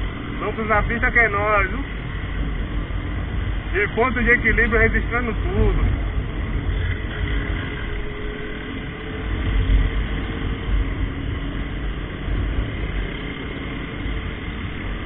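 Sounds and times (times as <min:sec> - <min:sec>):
motorcycle engines droning: 0:00.0 - 0:15.0
wind rumble on microphone: 0:00.0 - 0:15.0.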